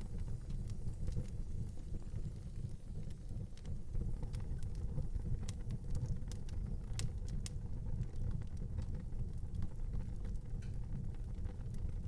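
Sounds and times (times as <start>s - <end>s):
fire rumbling and crackling: 0.0s - 12.0s.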